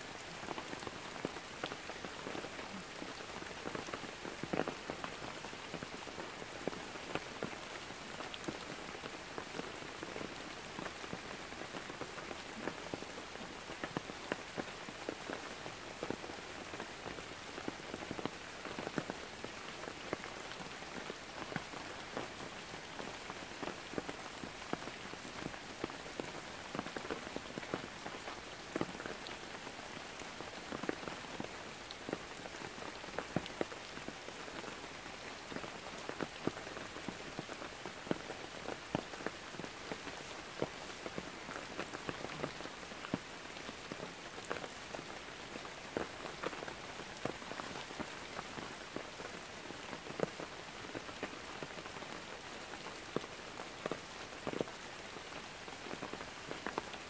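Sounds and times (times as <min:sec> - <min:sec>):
heavy rain on foliage: 0:00.0 - 0:57.0.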